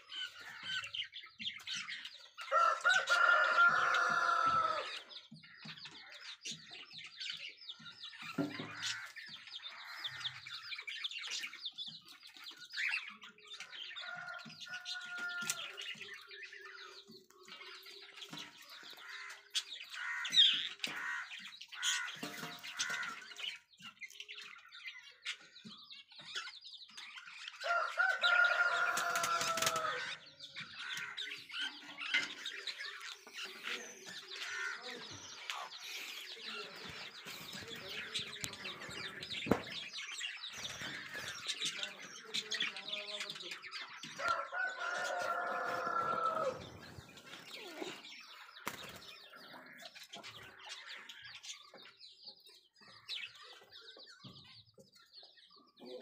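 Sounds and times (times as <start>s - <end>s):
drawn-out chick calls: 0.0s - 23.9s, 27.4s - 42.8s, 43.4s - 55.7s
budgerigar chicks chirping: 0.0s - 56.0s.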